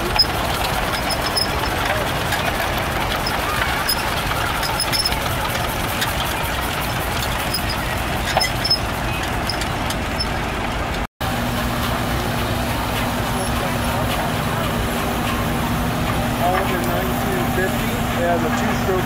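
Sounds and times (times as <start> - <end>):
engines idling: 0.0 - 19.0
outdoor hubbub: 0.0 - 19.0.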